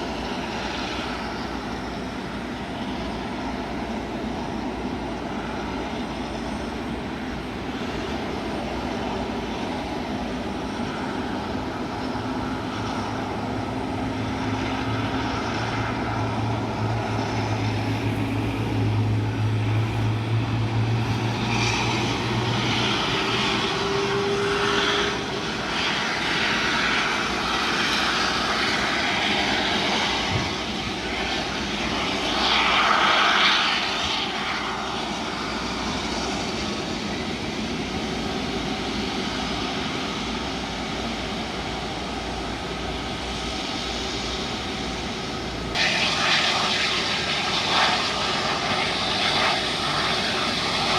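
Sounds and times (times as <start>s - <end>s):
jet engines running: 0.0s - 50.9s.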